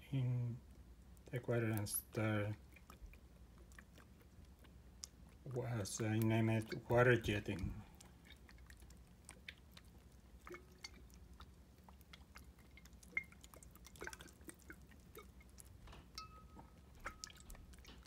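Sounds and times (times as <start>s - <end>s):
low steady hum: 0.0s - 18.0s
pipette squirting water: 1.0s - 18.0s.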